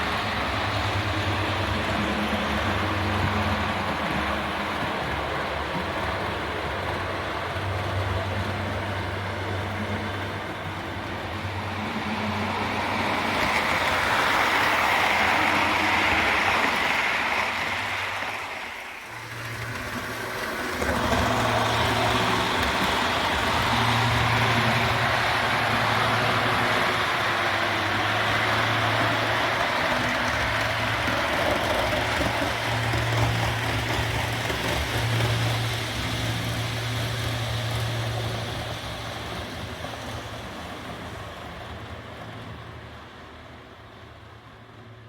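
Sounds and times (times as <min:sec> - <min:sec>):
model train motor hum: 0:00.0 - 0:42.5
wheels rolling on rails: 0:00.0 - 0:45.0.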